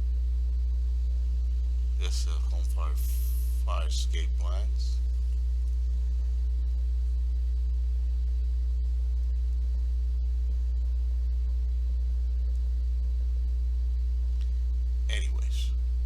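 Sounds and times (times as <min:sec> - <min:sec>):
low electrical mains hum: 0:00.0 - 0:16.0.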